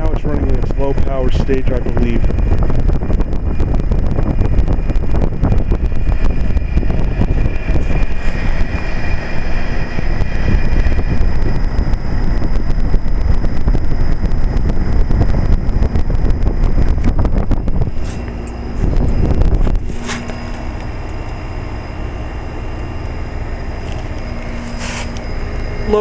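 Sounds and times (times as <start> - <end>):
compressor humming: 0.0 - 26.0
condenser fan rushing: 0.0 - 26.0.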